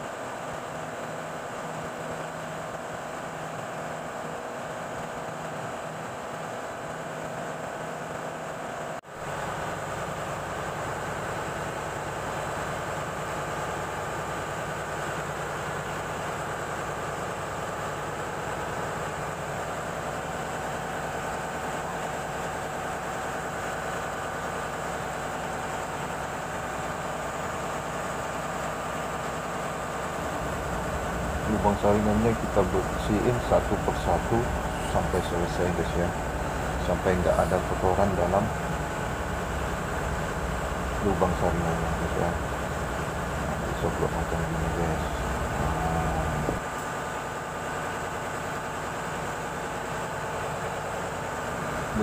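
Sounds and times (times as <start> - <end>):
engine-room machinery hum: 0.0 - 52.0.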